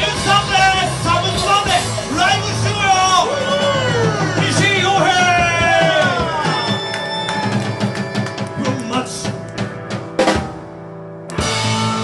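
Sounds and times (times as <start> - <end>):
drum kit hits and fills: 0.0 - 12.0
live rock band: 0.0 - 12.0.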